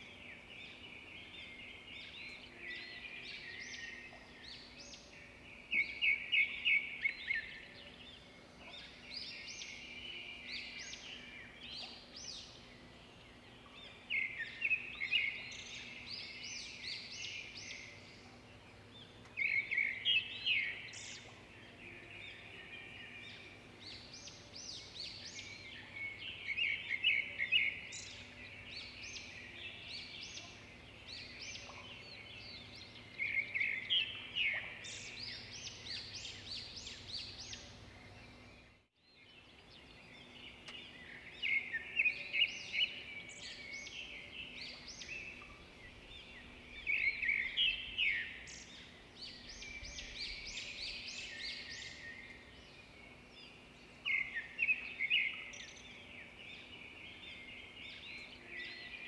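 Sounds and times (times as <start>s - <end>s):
bird chirping song: 0.0s - 59.0s.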